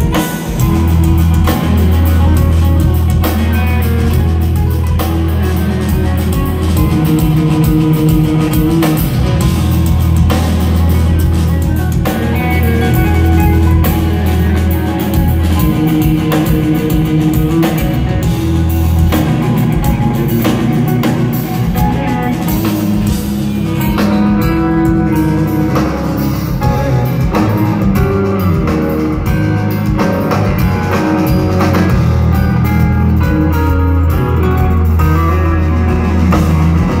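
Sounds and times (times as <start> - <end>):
drum kit: 0.0 - 37.0
electric guitars: 0.0 - 37.0.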